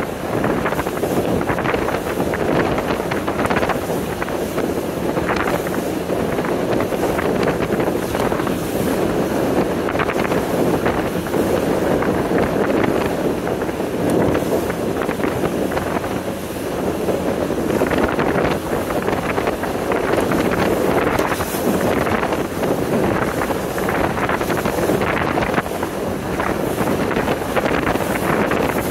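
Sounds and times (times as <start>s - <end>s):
choppy water rushing along hull: 0.0s - 28.9s
wind buffeting microphone: 0.0s - 28.9s.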